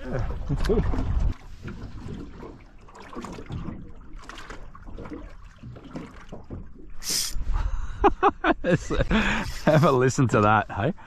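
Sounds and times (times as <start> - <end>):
small waves lapping against hull: 0.0 - 11.0.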